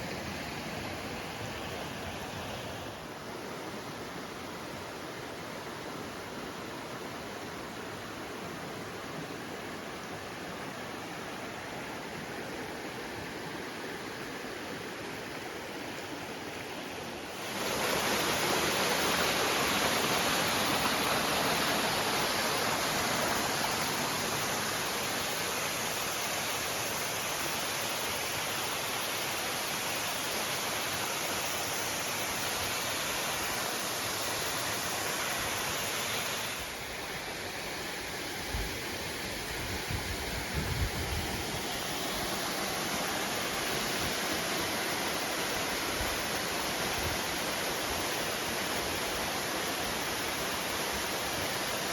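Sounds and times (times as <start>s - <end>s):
waterfall rushing: 9.4s - 51.9s.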